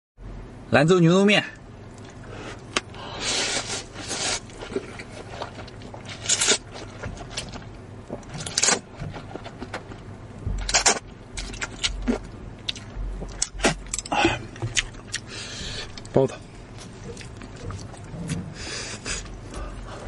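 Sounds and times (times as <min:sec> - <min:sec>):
wet eating sounds: 0:01.9 - 0:20.0.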